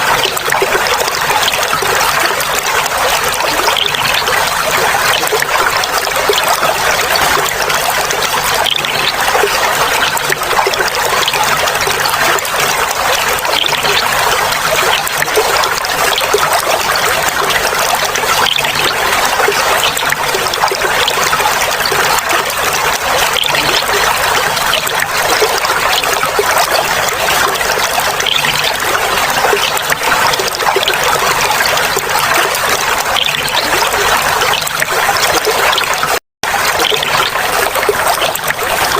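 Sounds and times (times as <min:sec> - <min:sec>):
water trickling and babbling: 0:00.0 - 0:38.9.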